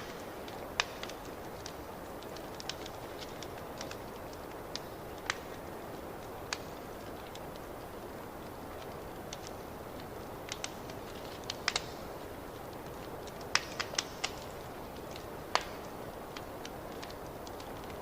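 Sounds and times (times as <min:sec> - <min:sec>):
burning wood crackling and popping: 0:00.0 - 0:18.0
fire roaring: 0:00.0 - 0:18.0.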